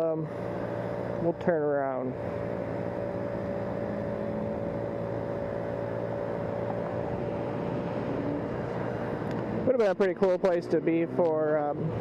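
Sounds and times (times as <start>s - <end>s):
road and wind noise: 0.0s - 12.0s
vehicle hum: 0.0s - 12.0s.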